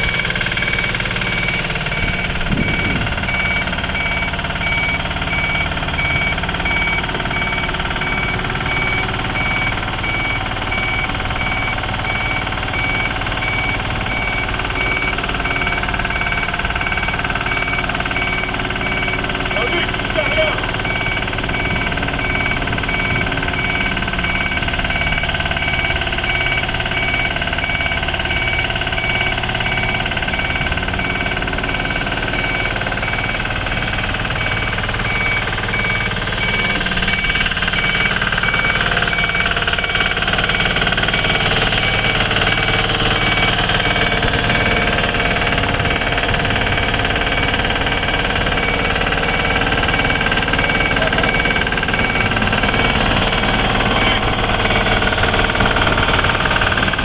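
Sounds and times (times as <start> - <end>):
diesel engine with rattly knock: 0.0 - 57.0.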